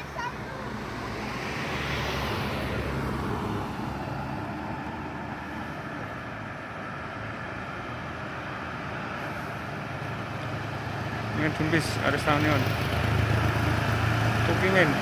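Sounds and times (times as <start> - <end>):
bus engine pulling uphill: 0.0 - 15.0.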